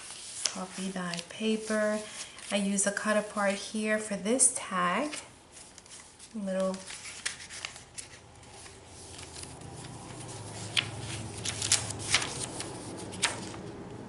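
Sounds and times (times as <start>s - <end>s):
paper pages turning: 0.0s - 3.7s, 4.9s - 13.7s.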